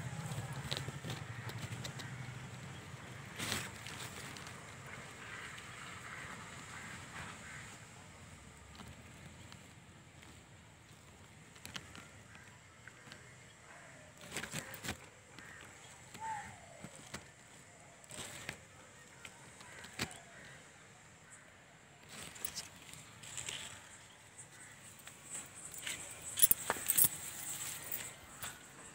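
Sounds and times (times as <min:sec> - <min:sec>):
dry grass rustling: 0:00.0 - 0:20.6, 0:22.0 - 0:28.9.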